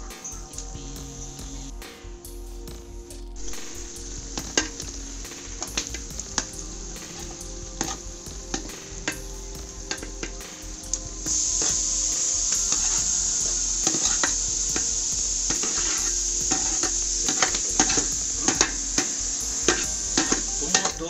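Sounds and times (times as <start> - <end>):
masala sizzling in a pot: 3.4 - 21.0
steel skimmer scraping a plate: 3.4 - 21.0.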